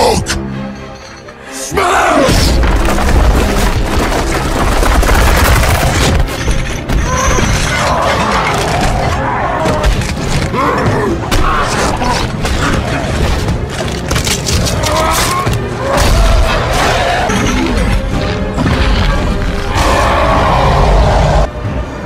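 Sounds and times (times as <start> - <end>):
film music: 0.0 - 22.0.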